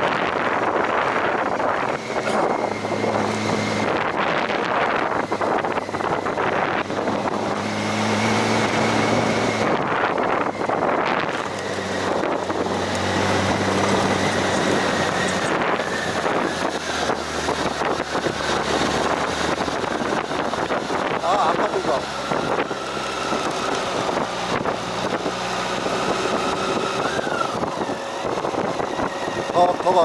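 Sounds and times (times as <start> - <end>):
motorcycle engine running: 0.0 - 30.0
wind rushing over microphone: 0.0 - 30.0.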